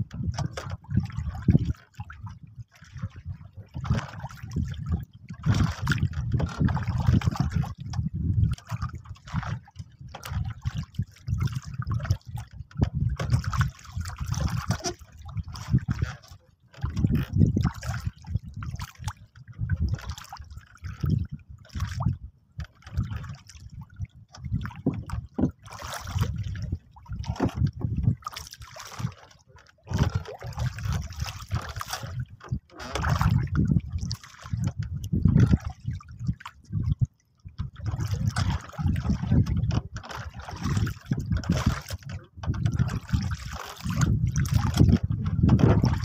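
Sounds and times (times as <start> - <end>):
water lapping against boat hull: 0.0 - 46.0
wind buffeting microphone: 0.0 - 46.0.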